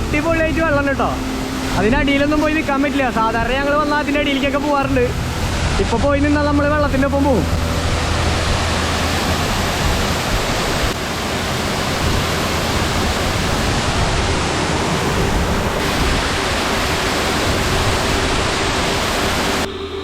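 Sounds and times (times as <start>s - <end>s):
waterfall roaring: 0.0s - 19.7s.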